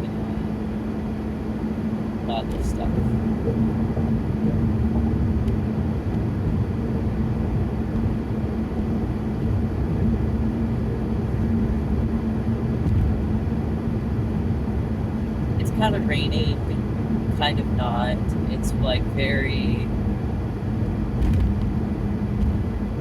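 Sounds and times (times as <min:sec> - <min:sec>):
car interior road and engine noise: 0:00.0 - 0:23.0.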